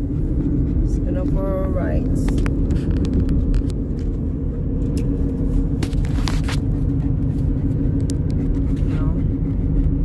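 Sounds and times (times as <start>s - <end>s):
car road and engine rumble: 0.0s - 10.0s
constant low hum: 0.0s - 10.0s.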